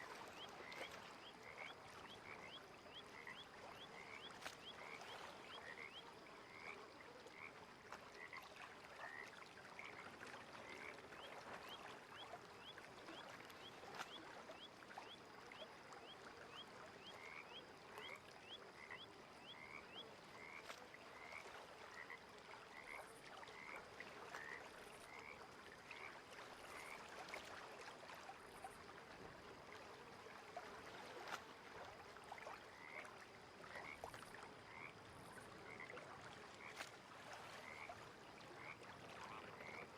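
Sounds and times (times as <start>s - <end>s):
frogs chirping: 0.0s - 27.5s, 30.9s - 39.9s
faint lakeside hiss: 0.0s - 39.9s.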